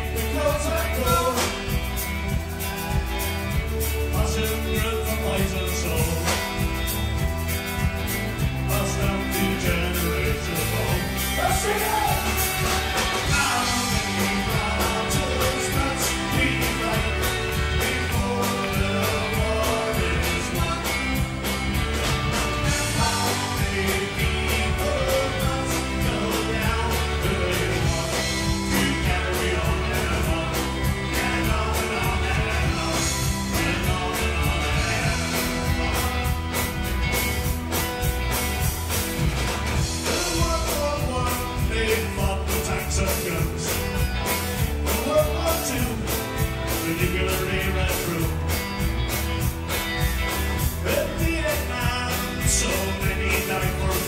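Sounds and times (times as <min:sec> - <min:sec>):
bass guitar: 0:00.0 - 0:54.0
drums with a steady beat: 0:00.0 - 0:54.0
electric guitar: 0:00.0 - 0:54.0.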